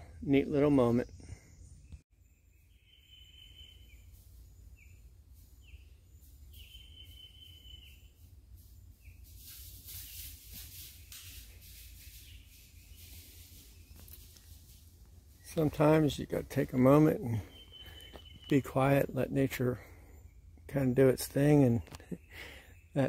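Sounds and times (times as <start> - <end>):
birds singing: 0.0 - 14.5, 15.3 - 23.0.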